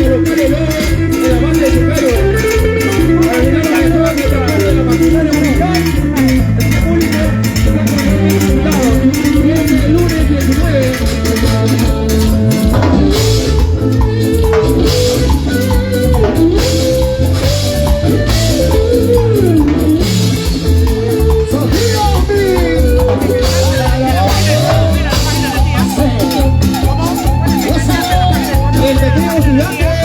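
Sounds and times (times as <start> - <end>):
band playing latin dance music: 0.0 - 30.0.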